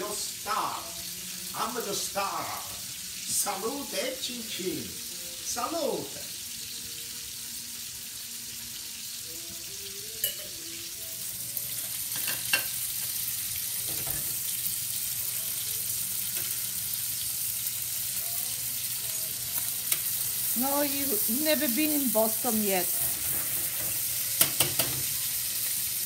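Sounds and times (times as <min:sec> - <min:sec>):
meat sizzling in oil: 0:00.0 - 0:26.0.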